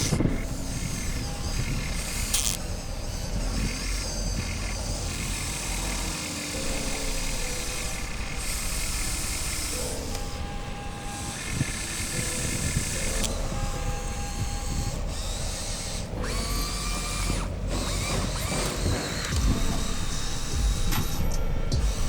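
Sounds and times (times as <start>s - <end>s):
toy electric motors whirring: 0.0s - 22.0s.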